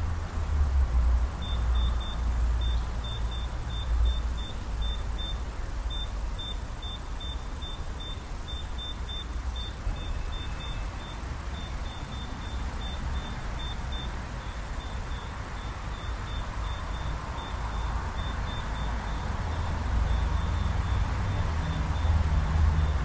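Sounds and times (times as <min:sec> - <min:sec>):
short high beeps: 0:01.4 - 0:21.0.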